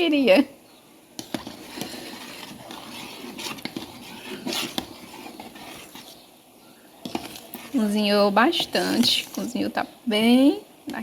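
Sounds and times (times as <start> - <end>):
pattering and scraping in pot: 1.1 - 10.0.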